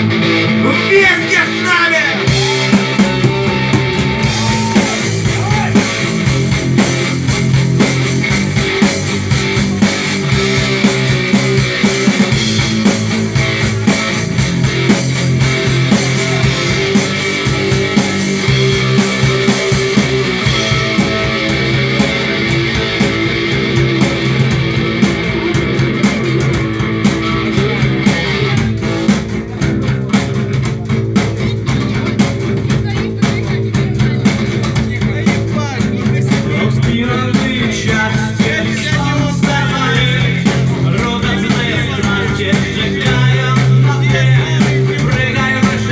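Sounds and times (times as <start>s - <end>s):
rock music with guitar: 0.0s - 45.9s.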